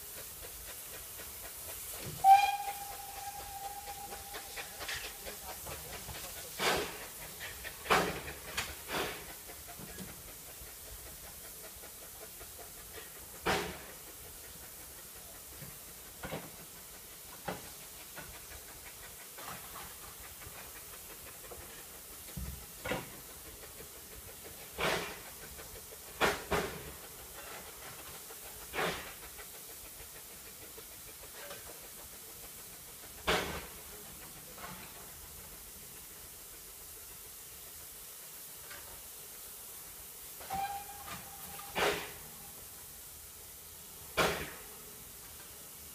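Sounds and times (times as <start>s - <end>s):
steam locomotive hissing: 0.0s - 45.9s.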